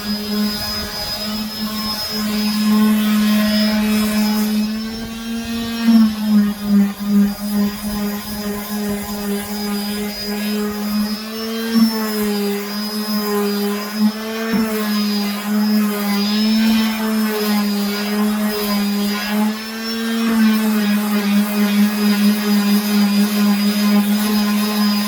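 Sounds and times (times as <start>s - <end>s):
electric sander on wood: 0.0s - 25.0s.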